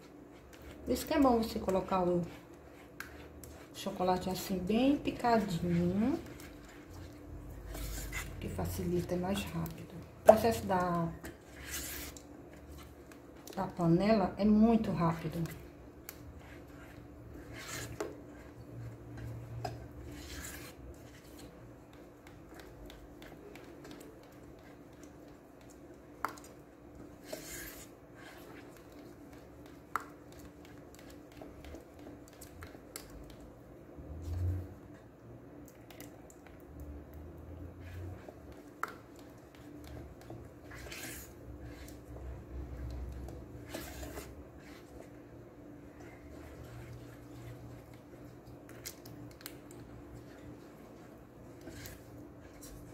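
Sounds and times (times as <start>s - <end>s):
spatula scraping thick chocolate: 0.0s - 33.4s, 35.7s - 52.9s.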